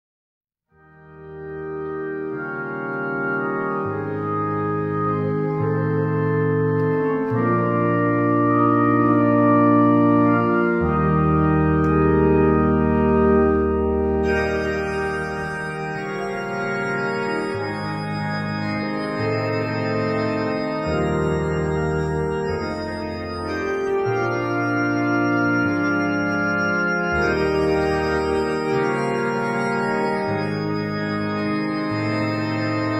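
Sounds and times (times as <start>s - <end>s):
slow organ chords: 0.7s - 32.9s.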